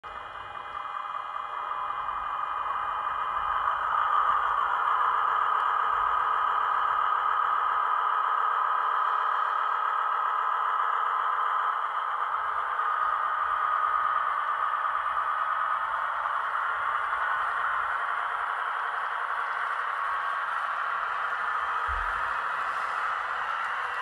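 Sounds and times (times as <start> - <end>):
model train rolling on track: 0.1 - 24.0.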